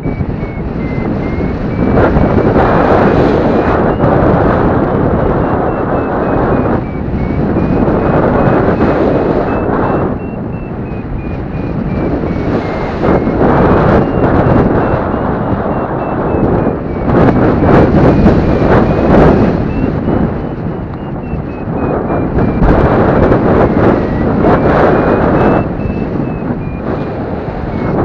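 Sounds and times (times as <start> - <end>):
variometer beeping rapidly: 0.0 - 28.0
wind rushing over microphone: 0.0 - 28.0.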